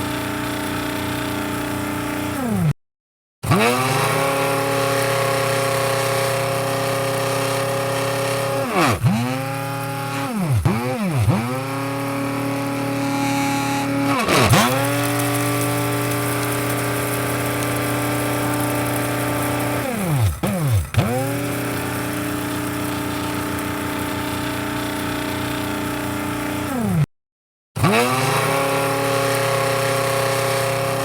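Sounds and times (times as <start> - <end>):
electric coffee grinder motor humming: 0.0 - 2.7, 3.5 - 27.1, 27.8 - 31.0.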